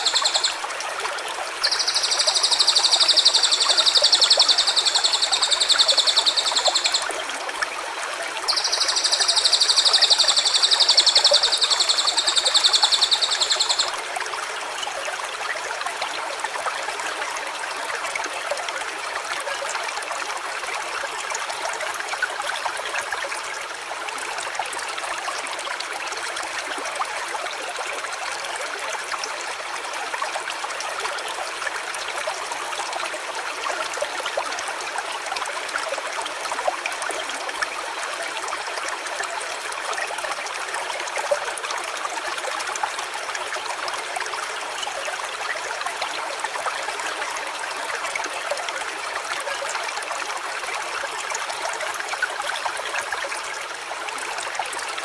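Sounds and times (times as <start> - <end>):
small stream running: 0.0 - 55.0.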